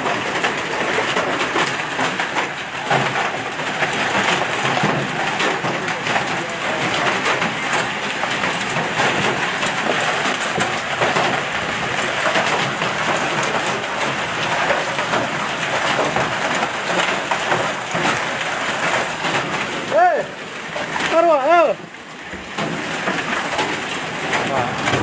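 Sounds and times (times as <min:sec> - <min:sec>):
hail and heavy rain pelting: 0:00.0 - 0:25.0.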